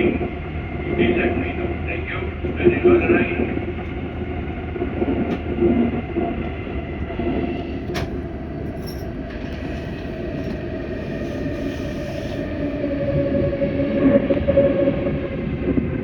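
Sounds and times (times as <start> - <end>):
train wheels rumbling on rail: 0.0 - 16.0
constant hum: 0.9 - 15.0.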